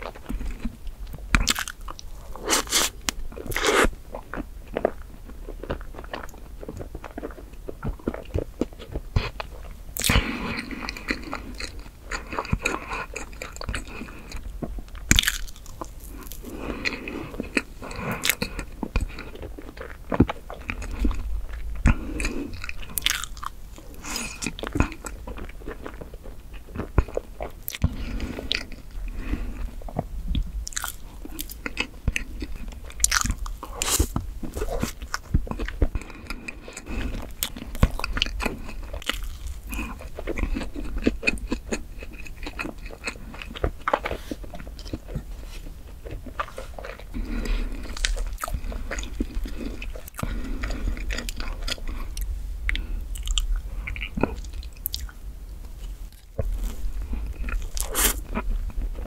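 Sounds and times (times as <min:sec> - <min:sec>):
close chewing of cake: 0:00.0 - 0:59.0.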